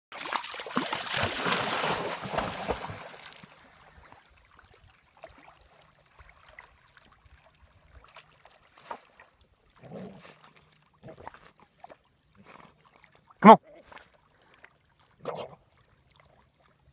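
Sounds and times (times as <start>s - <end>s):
faint splashes of dog swimming: 0.1s - 16.9s
water splashing and churning: 0.1s - 16.9s.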